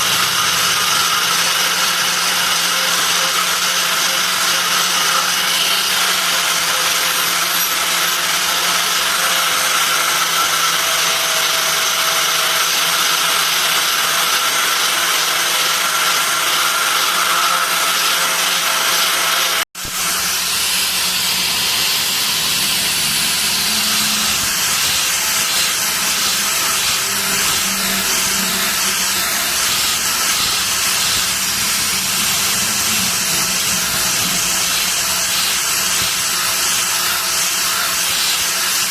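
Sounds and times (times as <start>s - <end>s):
loud hissing machine noise: 0.0s - 38.9s.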